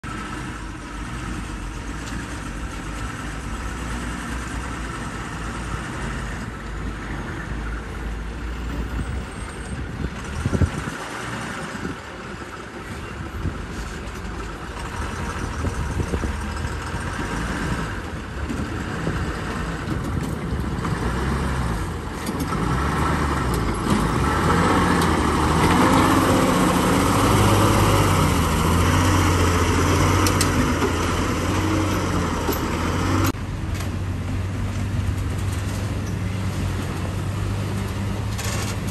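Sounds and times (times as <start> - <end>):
truck diesel engines running: 0.0 - 38.9.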